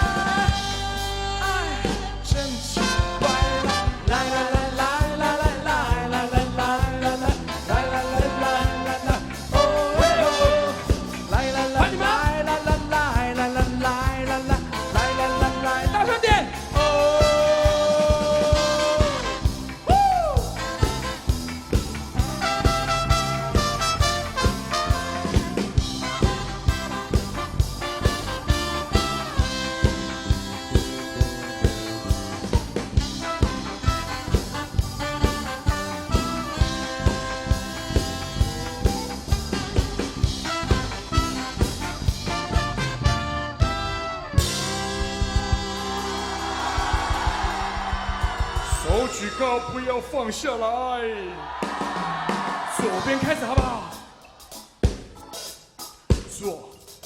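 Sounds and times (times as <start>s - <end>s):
brass lines: 0.0s - 47.1s
steady drum beat: 0.0s - 50.2s, 51.6s - 57.0s
pop band playing: 0.0s - 57.0s.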